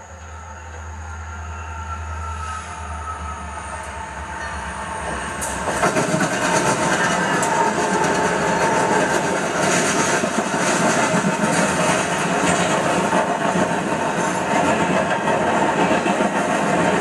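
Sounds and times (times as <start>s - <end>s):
train wheels on rails: 1.9s - 17.0s.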